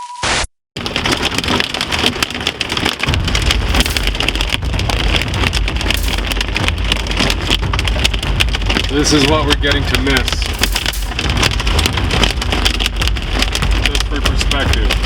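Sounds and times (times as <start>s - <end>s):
hail pelting a car roof: 0.8s - 15.0s
low vehicle rumble: 0.8s - 15.0s.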